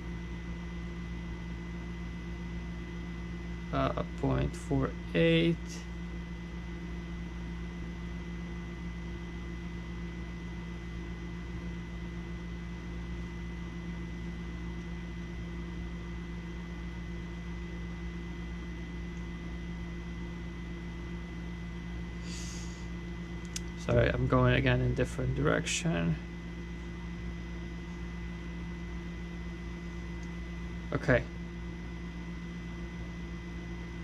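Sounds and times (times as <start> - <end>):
small pump humming with whine: 0.0 - 34.0.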